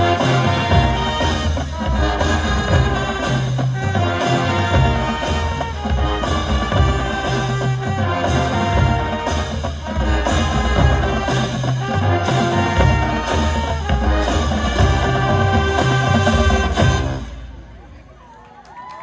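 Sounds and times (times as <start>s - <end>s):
brass with low bass notes: 0.0s - 17.9s
marching band playing: 0.0s - 18.1s.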